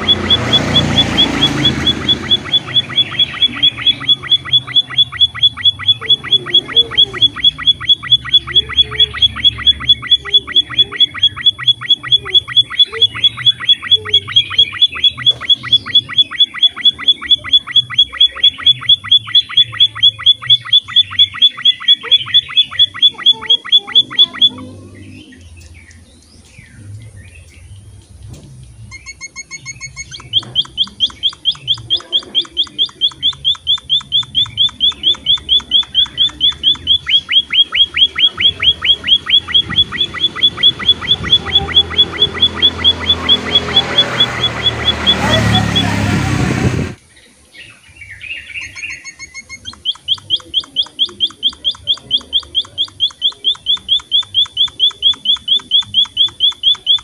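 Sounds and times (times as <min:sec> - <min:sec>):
faint bird calls: 0:00.0 - 0:57.0.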